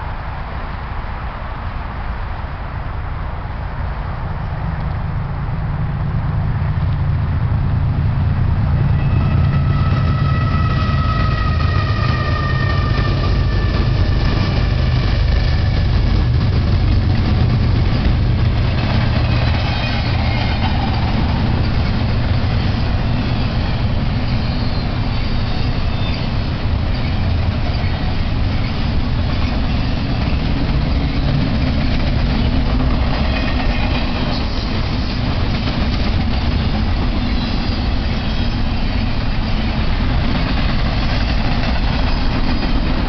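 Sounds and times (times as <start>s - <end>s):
diesel locomotive rumble and whine: 0.0s - 43.0s
freight cars rumbling and clattering: 0.0s - 43.0s.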